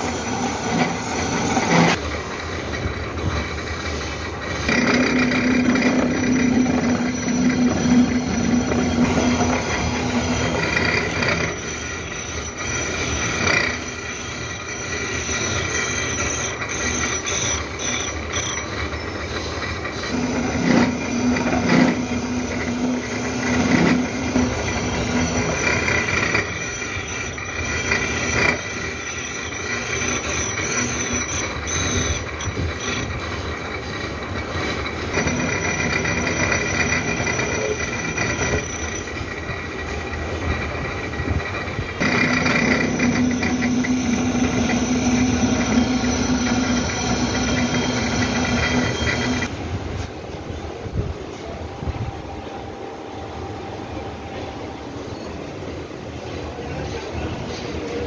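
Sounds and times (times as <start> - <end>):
milling machine cutting metal: 0.0 - 49.5.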